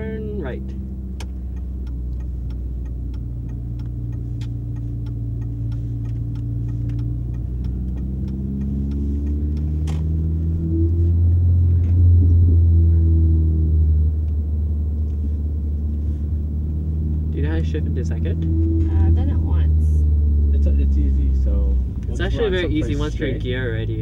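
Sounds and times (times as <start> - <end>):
car engine accelerating: 0.0 - 24.0
turn signal ticking: 0.0 - 24.0.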